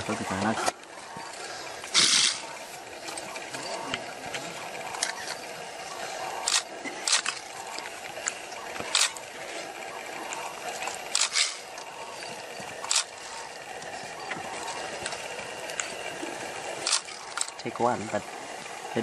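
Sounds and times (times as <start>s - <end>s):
porcupine rattling quills: 0.0s - 19.0s.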